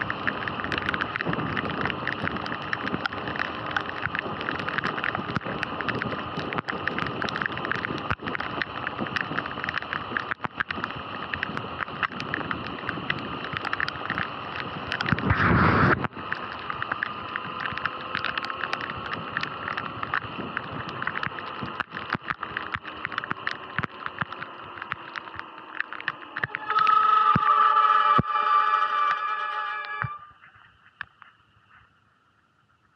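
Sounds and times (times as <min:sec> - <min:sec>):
raindrops ticking on camera: 0:00.0 - 0:32.9
wind and tyre spray rush: 0:00.0 - 0:32.9.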